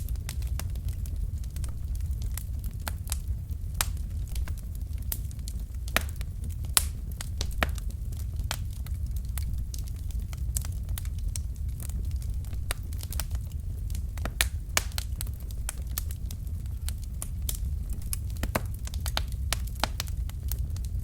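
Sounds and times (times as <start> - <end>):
fire crackling and popping: 0.0 - 21.0
flames rumbling: 0.0 - 21.0.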